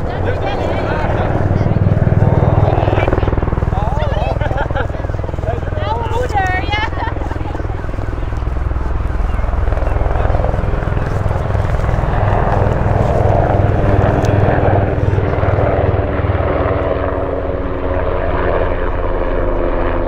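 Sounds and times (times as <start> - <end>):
helicopter rotor throbbing: 0.0 - 20.0
turbine engine whine: 0.0 - 20.0.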